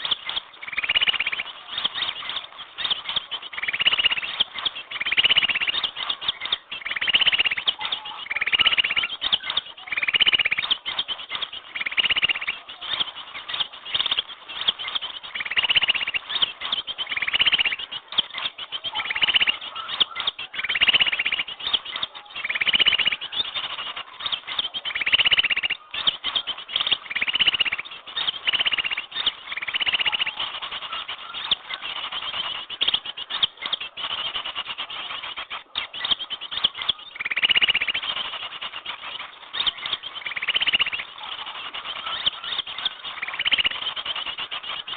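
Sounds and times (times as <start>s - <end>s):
high bird twittering: 0.0s - 44.9s
rapid trilled bird call: 0.0s - 44.9s.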